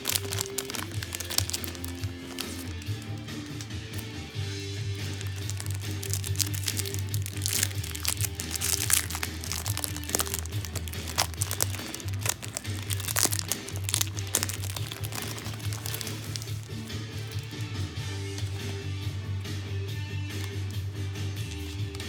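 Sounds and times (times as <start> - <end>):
plastic packaging crinkling: 0.0 - 19.6, 20.3 - 22.0.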